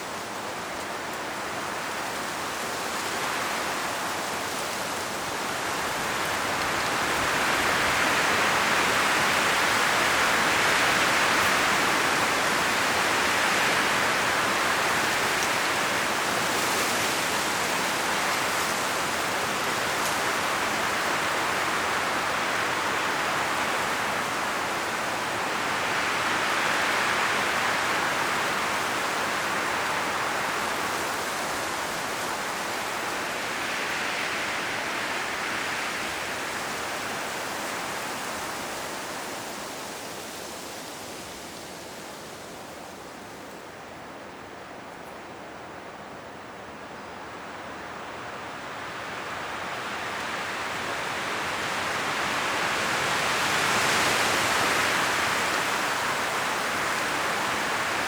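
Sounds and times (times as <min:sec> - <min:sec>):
wind rustling tree leaves: 0:00.0 - 0:58.0.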